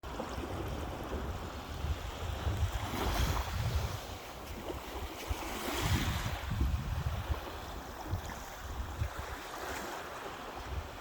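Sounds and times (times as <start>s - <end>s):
sea surf washing on shore: 0.0s - 11.0s
wind buffeting microphone: 0.0s - 11.0s.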